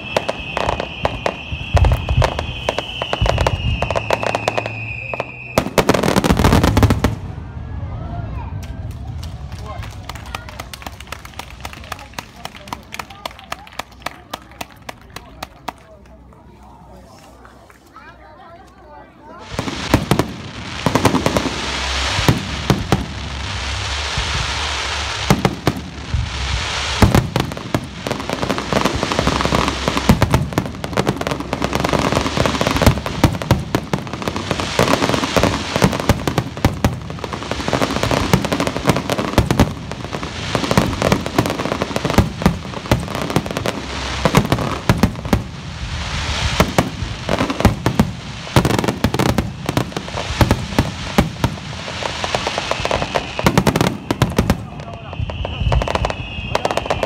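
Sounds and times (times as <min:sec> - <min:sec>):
fireworks bursting: 0:00.0 - 0:15.8, 0:19.3 - 0:57.0.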